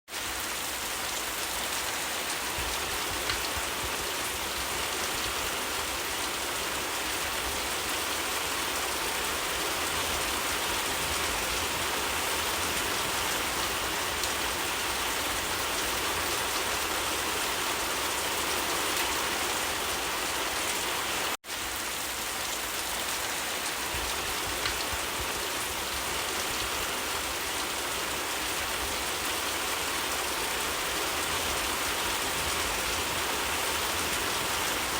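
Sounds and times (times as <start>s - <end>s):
rain falling on leaves: 0.1s - 34.9s.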